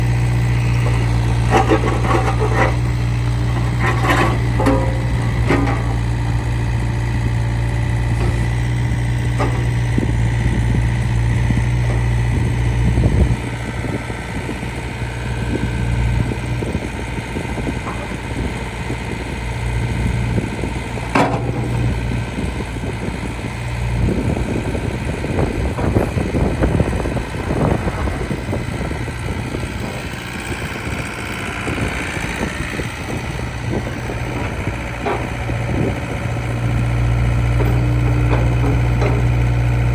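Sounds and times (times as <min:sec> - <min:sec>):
excavator diesel engine running: 0:00.0 - 0:39.9
clanks and rattles: 0:00.4 - 0:39.9.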